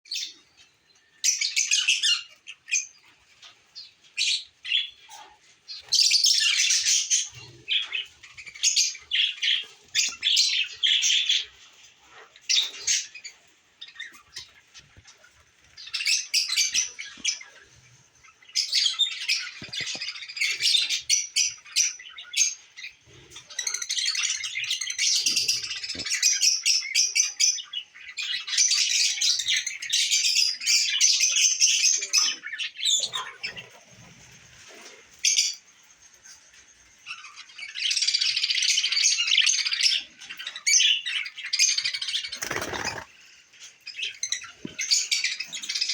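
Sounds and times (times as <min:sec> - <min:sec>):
pet birds chirping: 0:00.1 - 0:45.9.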